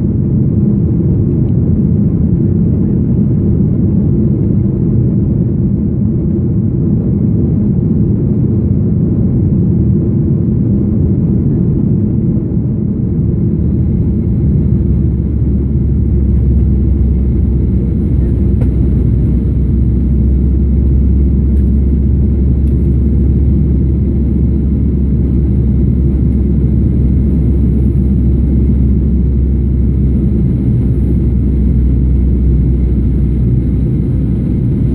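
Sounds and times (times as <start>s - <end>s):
airplane cabin engine rumble: 0.0s - 34.9s
deep drone: 0.0s - 34.9s.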